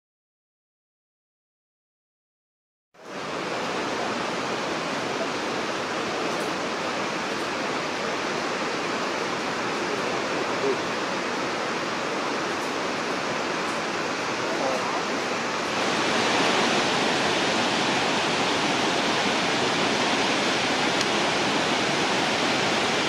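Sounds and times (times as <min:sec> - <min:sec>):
waterfall rushing: 0:03.0 - 0:23.0.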